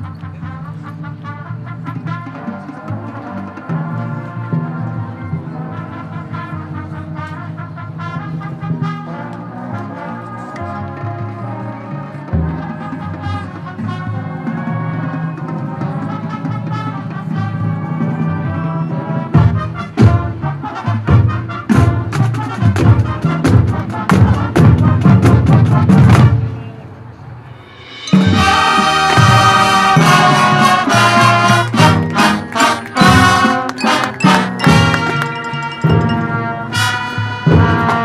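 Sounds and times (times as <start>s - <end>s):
marching band playing: 0.0s - 38.0s.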